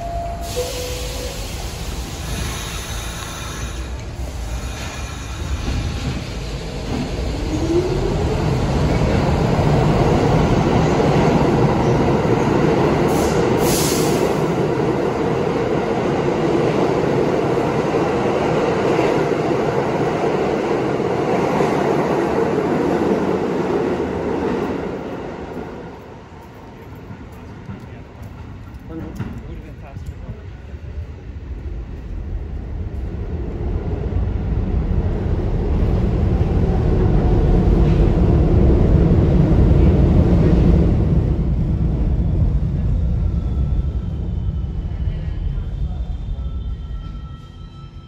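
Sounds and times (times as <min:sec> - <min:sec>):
subway train rumbling past: 0:00.0 - 0:48.0.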